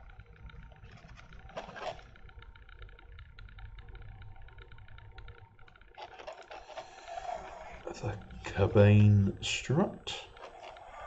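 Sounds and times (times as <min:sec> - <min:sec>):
faint small ticks: 0:00.0 - 0:11.0.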